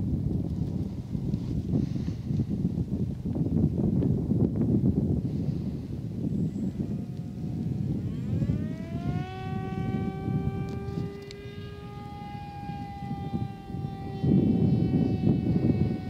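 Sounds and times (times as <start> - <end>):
wind rumbling on microphone: 0.0 - 16.0
electric motor and propeller whining: 0.1 - 16.0.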